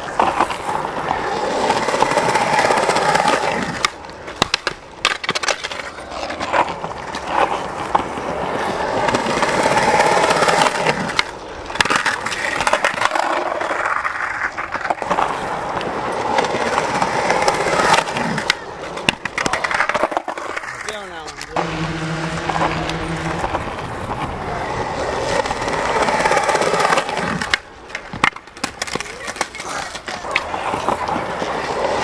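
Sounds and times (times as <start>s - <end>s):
skateboard clacking on concrete: 0.0s - 32.0s
skateboard wheels rolling on concrete: 0.0s - 32.0s.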